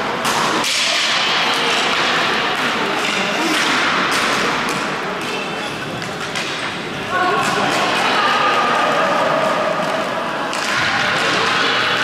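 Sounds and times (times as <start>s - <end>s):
voices: 0.0s - 12.0s.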